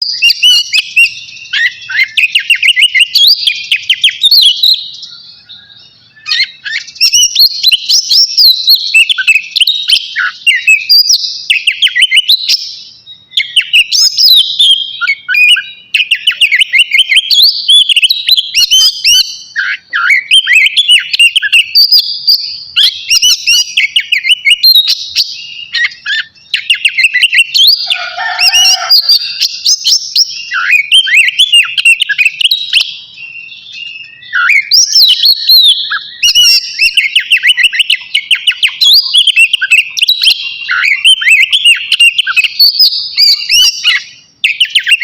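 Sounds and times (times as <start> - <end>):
bird singing whistles and trills: 0.0 - 45.0.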